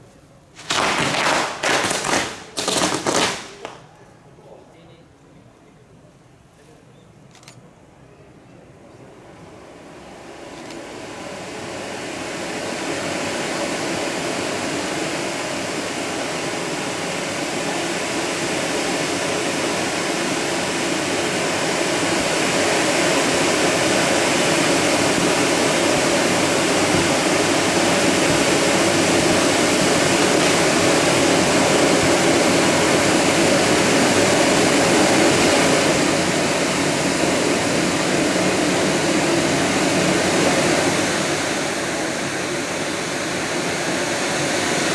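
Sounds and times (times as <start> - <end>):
firework fountains hissing: 0.6 - 3.9, 12.2 - 44.9.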